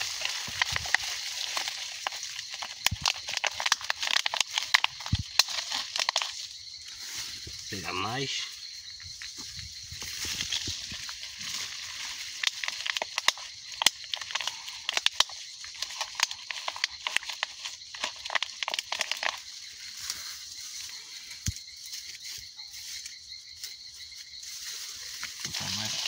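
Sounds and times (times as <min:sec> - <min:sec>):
soil crackling and crunching: 0:00.0 - 0:26.0.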